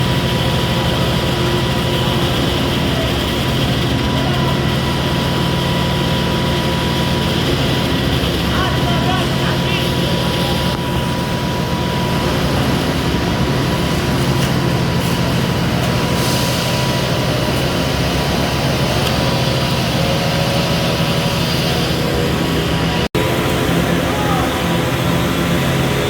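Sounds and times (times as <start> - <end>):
construction machinery engine drone: 0.0 - 26.0.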